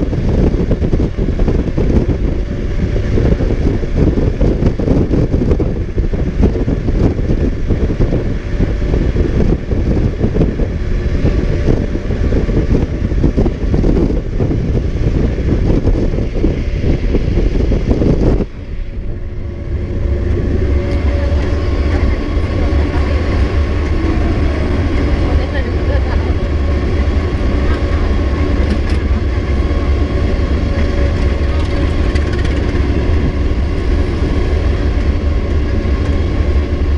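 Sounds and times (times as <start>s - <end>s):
engine drone: 0.0s - 36.9s
wind and road noise: 0.0s - 36.9s.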